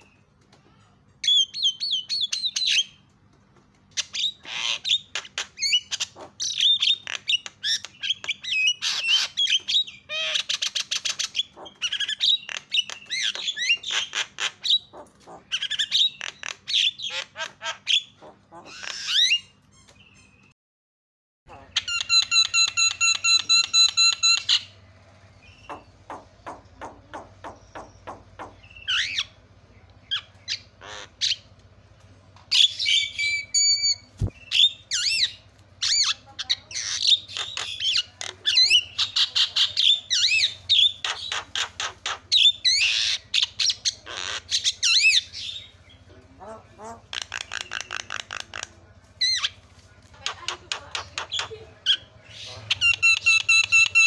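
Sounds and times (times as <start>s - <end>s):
myna calling: 4.3s - 7.9s, 11.3s - 19.5s, 21.5s - 31.8s, 32.5s - 54.0s.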